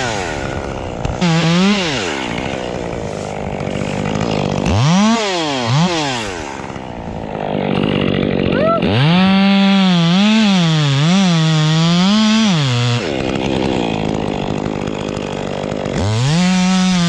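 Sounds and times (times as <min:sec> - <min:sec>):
chainsaw revving and idling: 0:00.0 - 0:17.0.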